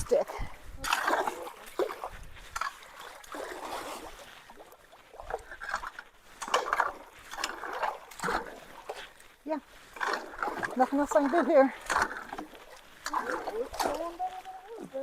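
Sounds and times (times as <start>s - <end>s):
creek water trickling: 0.0s - 15.0s
water splashes: 0.0s - 15.0s.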